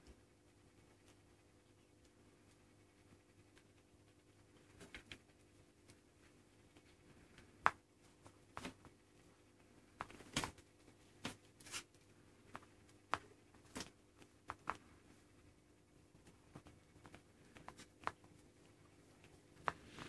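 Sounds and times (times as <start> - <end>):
kittens tapping and rustling: 0.0 - 20.0.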